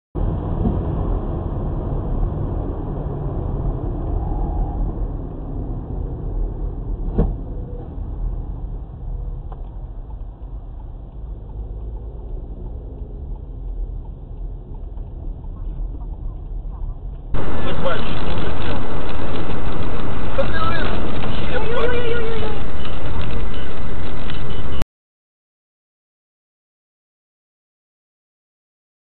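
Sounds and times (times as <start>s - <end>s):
car road and engine rumble: 0.2s - 24.8s.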